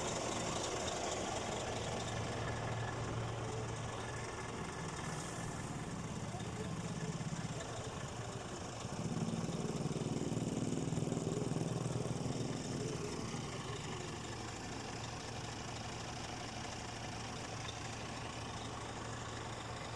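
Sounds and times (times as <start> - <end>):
diesel truck engine idling: 0.0 - 19.9.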